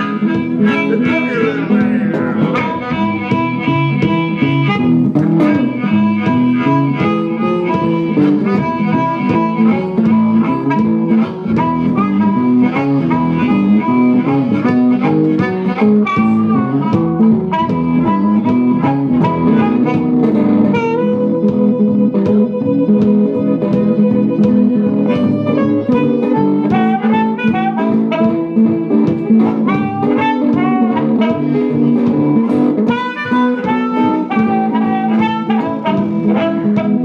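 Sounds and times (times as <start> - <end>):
blues band playing: 0.0 - 37.0
guitar: 0.0 - 37.0
harmonica: 0.0 - 37.0.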